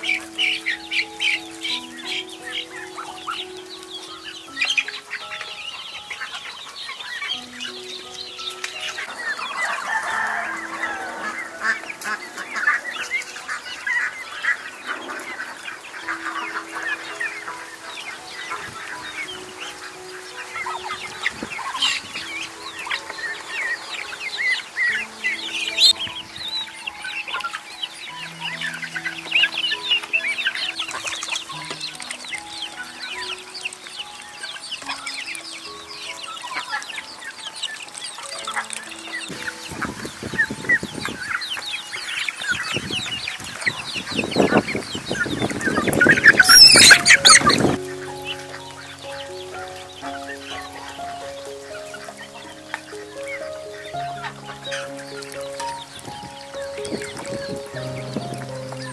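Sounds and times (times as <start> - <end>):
chickens clucking: 0.0 - 58.9
chicks chirping: 0.0 - 58.9
soft instrumental music: 0.0 - 58.9.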